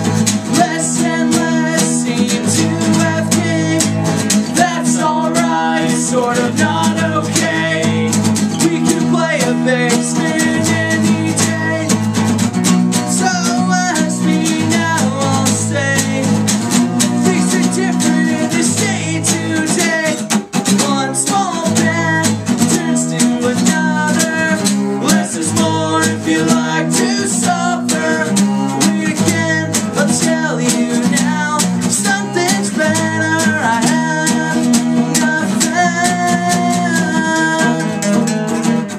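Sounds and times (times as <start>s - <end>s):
person singing: 0.0s - 12.1s, 12.9s - 38.3s
guitar: 0.0s - 38.9s
regular beat: 0.0s - 38.9s.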